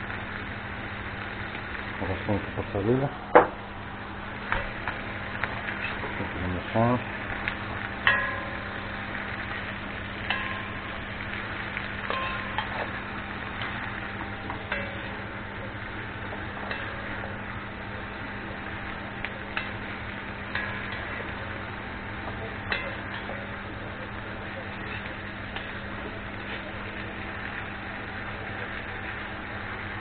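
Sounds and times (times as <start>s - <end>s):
beef and onions sizzling in a pot: 0.0s - 30.0s.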